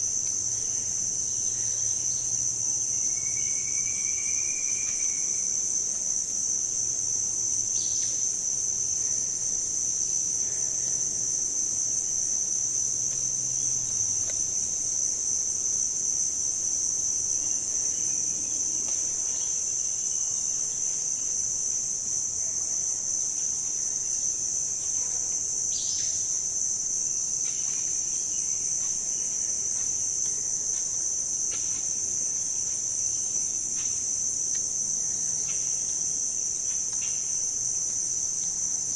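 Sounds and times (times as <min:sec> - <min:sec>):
shrill insect chorus: 0:00.0 - 0:38.9.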